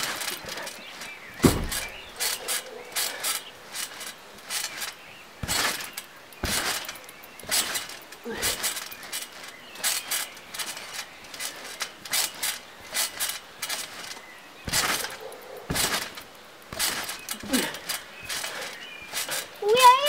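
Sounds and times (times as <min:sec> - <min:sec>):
heavy landings on trampoline: 0:00.0 - 0:20.0
trampoline springs squeaking: 0:00.0 - 0:20.0.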